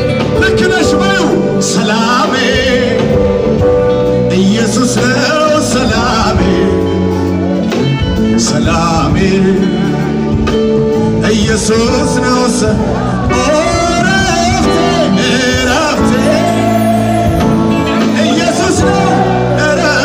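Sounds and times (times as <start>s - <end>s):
person singing with vibrato: 0.0s - 20.0s
steady bass line: 0.0s - 20.0s.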